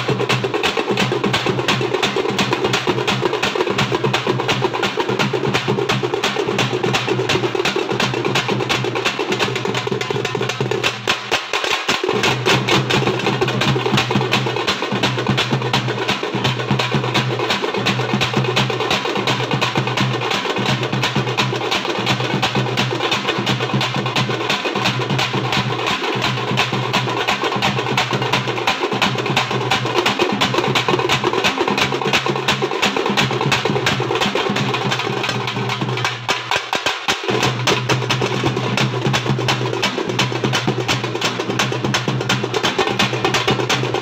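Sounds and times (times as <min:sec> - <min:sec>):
drums beating in unison: 0:00.0 - 0:44.0.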